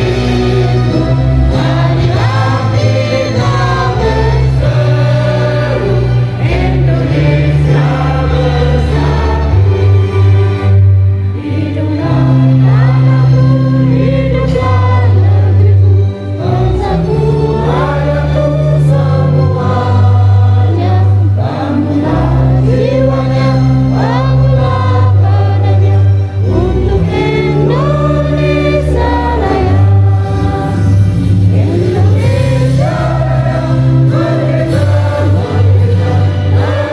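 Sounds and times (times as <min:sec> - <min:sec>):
group of people singing: 0:00.0 - 0:36.9
instrumental accompaniment: 0:00.0 - 0:36.9.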